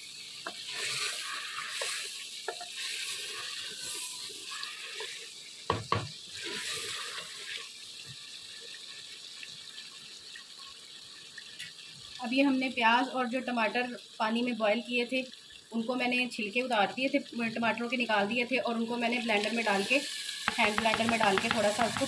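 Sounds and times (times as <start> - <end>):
chicken sizzling in a pot: 0.0 - 22.0.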